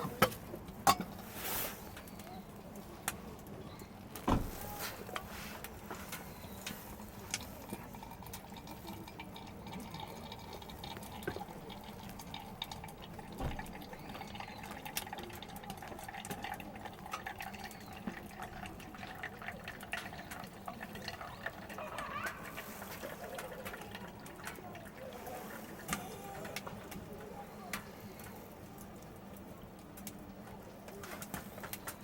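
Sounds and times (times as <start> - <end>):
steady liquid sound: 0.0 - 32.0.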